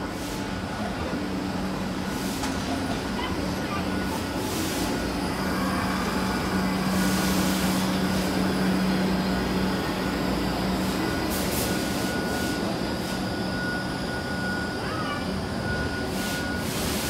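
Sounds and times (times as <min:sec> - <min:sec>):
locomotive hum: 0:00.0 - 0:17.0.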